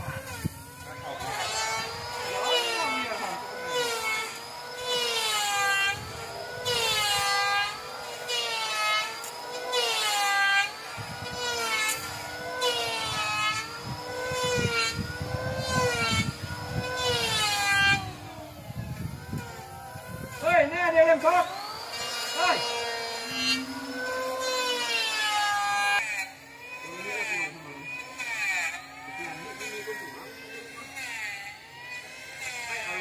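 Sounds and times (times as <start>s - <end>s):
power tool whining: 0.0s - 33.0s
rasping strokes: 0.0s - 33.0s.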